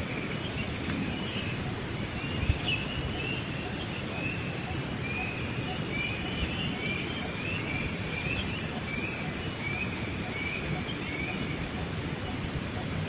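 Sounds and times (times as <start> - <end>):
bird chirping: 0.0 - 13.0
insects trilling: 0.0 - 13.0.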